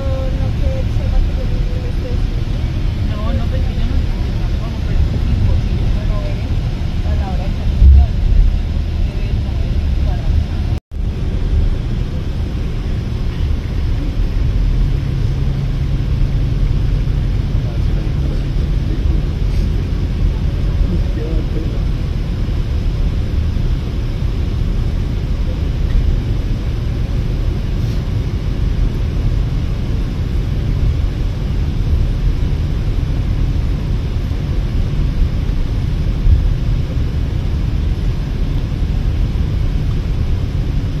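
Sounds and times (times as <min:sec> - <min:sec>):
coach cabin engine and road rumble: 0:00.0 - 0:41.0.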